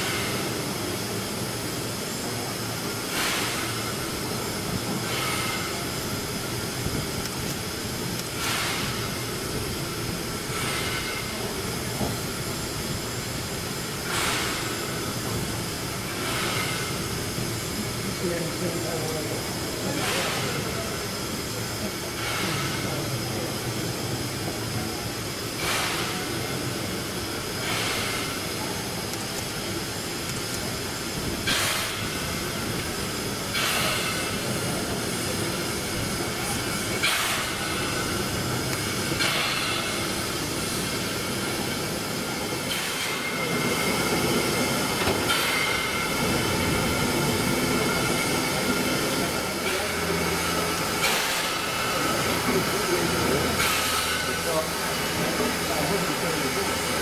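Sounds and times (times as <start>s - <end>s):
steam hissing: 0.0s - 57.0s
steam locomotive beats: 0.0s - 57.0s.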